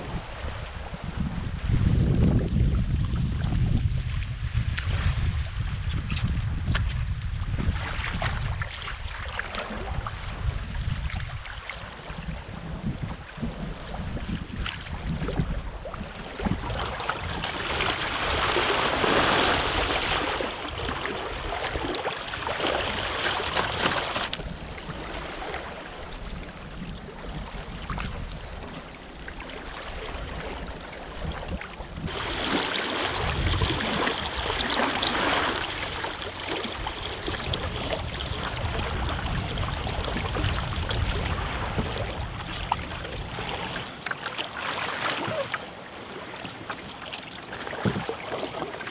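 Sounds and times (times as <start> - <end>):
water splashing along a hull: 0.0 - 48.9
wind rumbling on microphone: 0.0 - 48.9.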